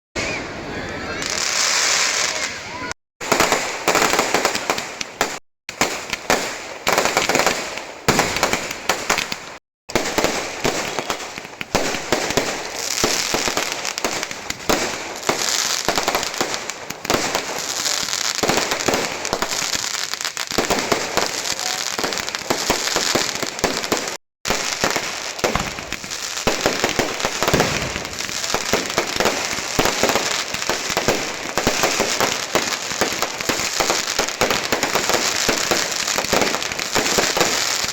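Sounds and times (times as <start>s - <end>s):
fireworks crackling and popping: 0.2s - 37.9s.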